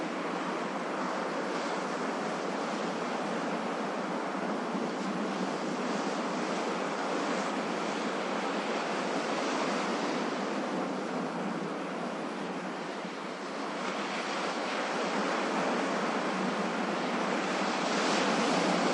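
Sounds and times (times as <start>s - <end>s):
ocean waves breaking: 0.0s - 18.9s.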